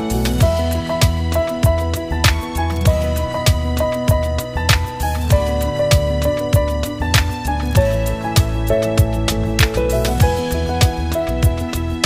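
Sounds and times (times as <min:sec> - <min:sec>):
held melodic notes: 0:00.0 - 0:12.0.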